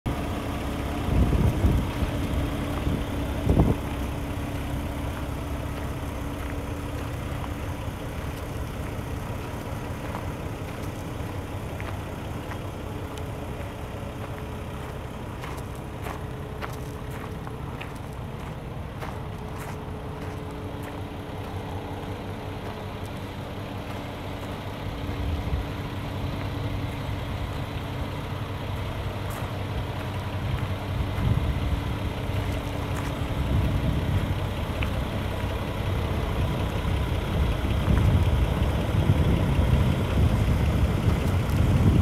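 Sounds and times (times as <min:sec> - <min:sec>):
diesel engine idling: 0:00.0 - 0:42.0.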